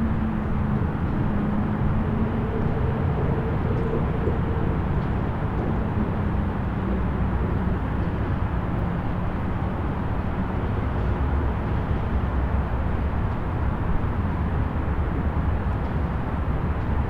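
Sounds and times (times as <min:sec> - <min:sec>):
distant highway traffic rumble: 0:00.0 - 0:16.3
faint engine drone: 0:00.0 - 0:17.0.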